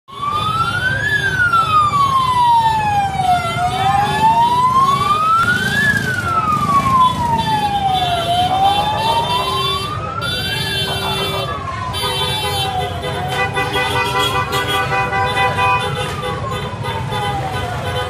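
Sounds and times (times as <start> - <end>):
siren wailing: 0.1 - 17.9
street crowd din: 0.1 - 18.0.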